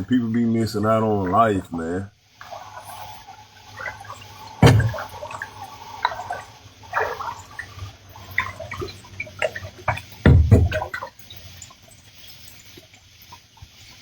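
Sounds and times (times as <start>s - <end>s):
water splashing and dripping: 0.8s - 14.0s.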